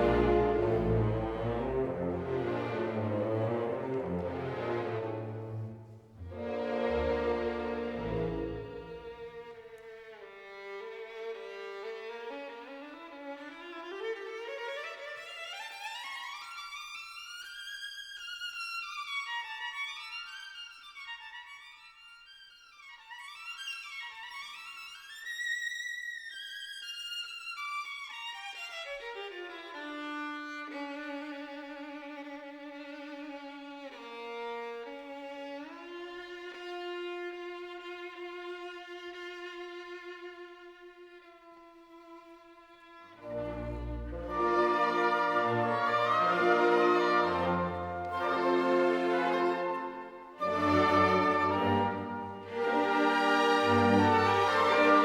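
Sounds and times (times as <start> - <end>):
solo violin playing: 0.0 - 55.0.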